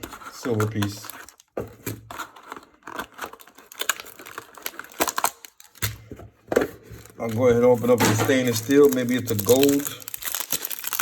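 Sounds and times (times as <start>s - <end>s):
plastic packaging crinkling: 0.0s - 6.1s, 6.7s - 11.0s.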